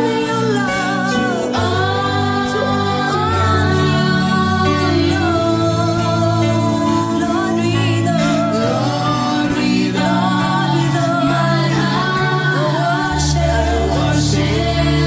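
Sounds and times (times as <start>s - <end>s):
sustained backing chords: 0.0s - 15.0s
woman singing gospel melody: 0.0s - 15.0s.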